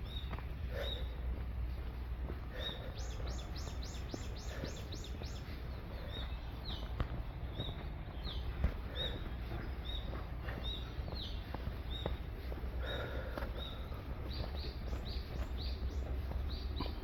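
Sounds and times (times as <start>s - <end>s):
songbirds calling: 0.0s - 17.0s.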